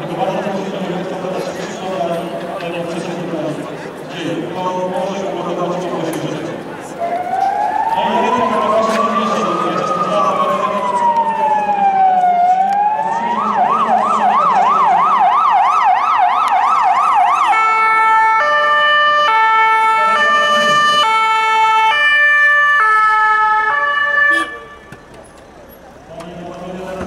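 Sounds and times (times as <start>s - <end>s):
ambulance siren: 5.1s - 27.0s.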